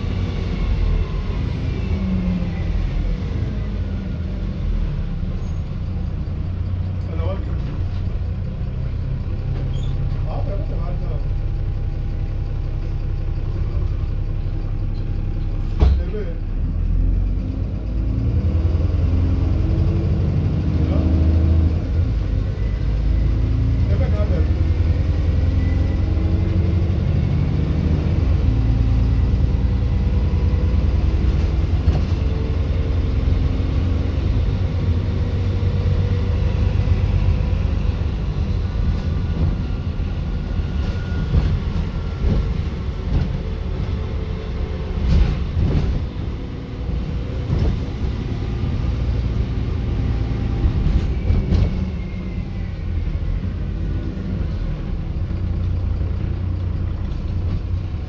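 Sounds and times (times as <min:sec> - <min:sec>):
bus diesel engine: 0:00.0 - 0:58.0
road rumble: 0:00.0 - 0:58.0.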